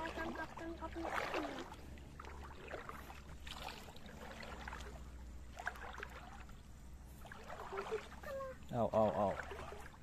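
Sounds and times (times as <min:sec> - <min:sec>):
seawater sloshing: 0:00.0 - 0:10.0.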